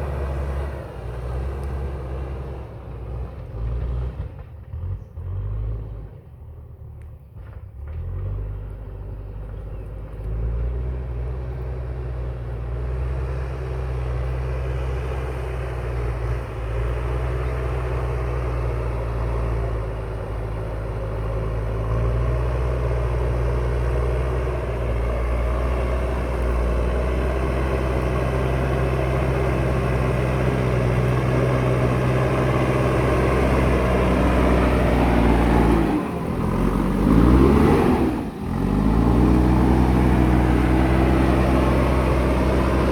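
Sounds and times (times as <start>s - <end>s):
backhoe diesel engine running: 0.0s - 6.6s, 7.3s - 42.9s.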